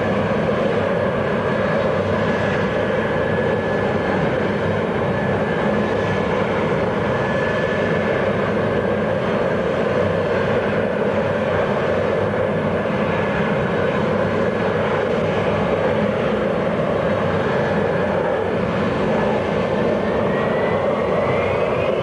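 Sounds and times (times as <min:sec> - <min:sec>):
aircraft engine whining: 0:00.0 - 0:22.0.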